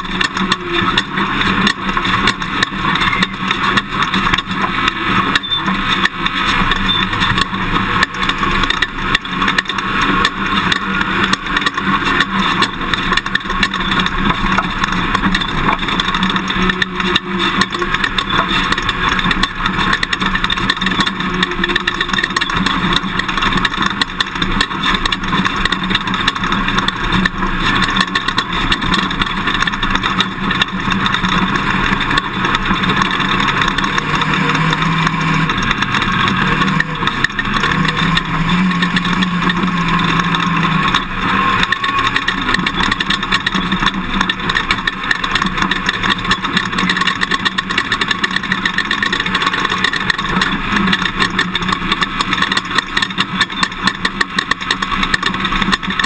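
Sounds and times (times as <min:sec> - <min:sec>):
pickup truck engine: 0:00.0 - 0:56.0
rattling and jolting: 0:00.0 - 0:56.0.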